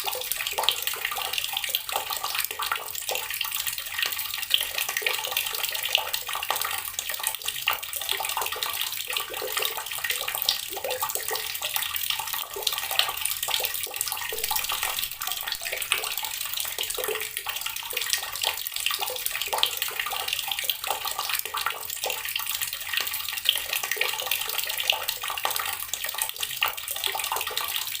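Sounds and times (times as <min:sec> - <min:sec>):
small water splashes: 0:00.0 - 0:28.0
water running from a tap: 0:00.0 - 0:28.0.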